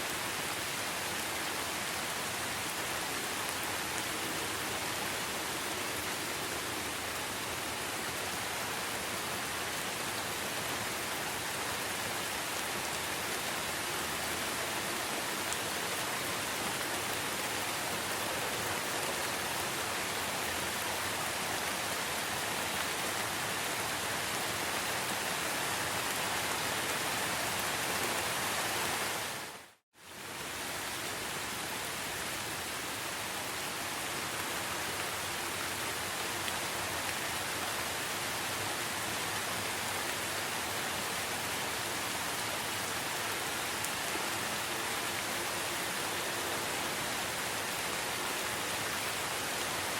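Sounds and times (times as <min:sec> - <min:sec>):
rain falling in forest: 0:00.0 - 0:49.9.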